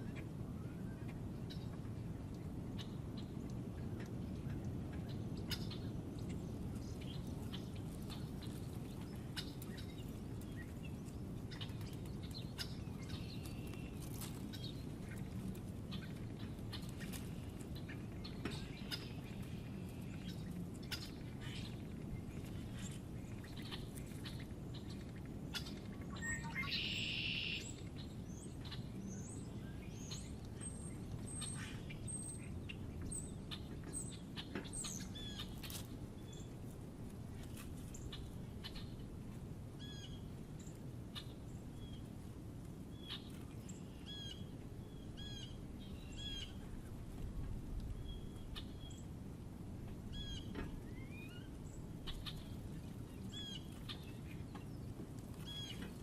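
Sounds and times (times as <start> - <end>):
low outdoor rumble: 0.0 - 56.0
small birds chirping: 2.7 - 49.2, 49.9 - 56.0.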